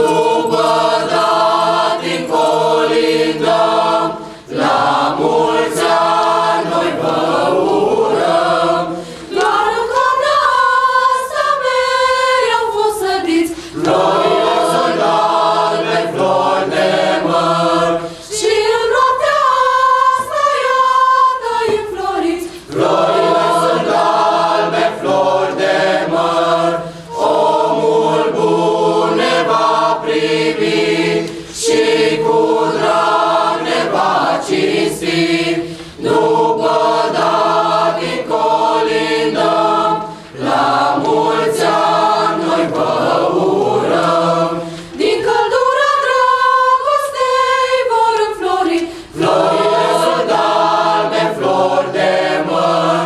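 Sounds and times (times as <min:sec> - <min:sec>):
choir breaths: 0:00.0 - 0:53.0
youth choir singing a cappella: 0:00.0 - 0:53.0.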